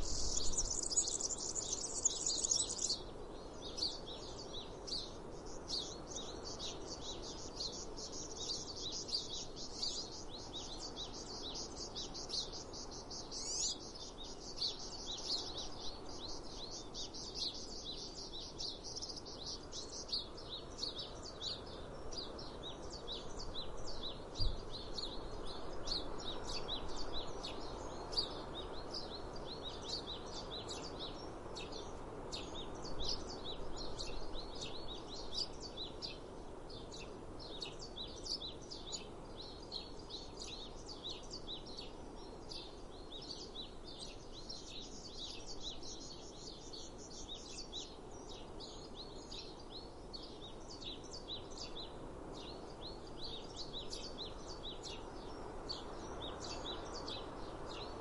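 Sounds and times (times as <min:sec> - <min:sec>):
outdoor background hiss: 0:00.0 - 0:58.0
small birds chirping: 0:00.0 - 0:58.0.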